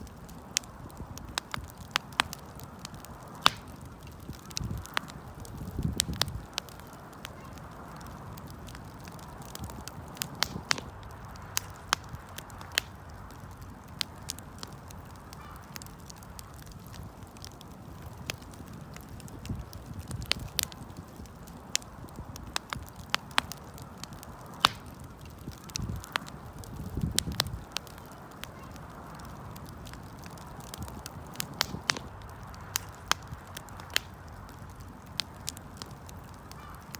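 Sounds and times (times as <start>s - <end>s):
bonfire crackling and popping: 0.0s - 36.9s.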